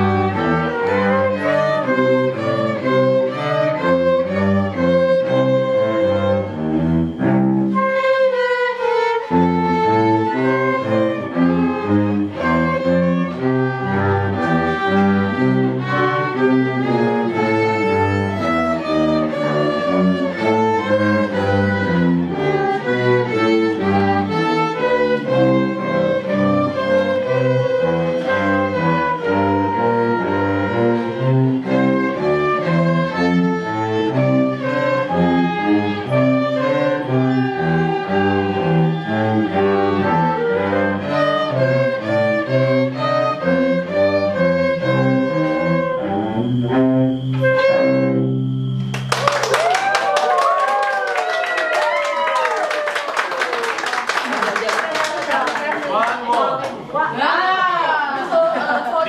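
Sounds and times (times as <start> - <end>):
string ensemble playing: 0.0 - 57.0.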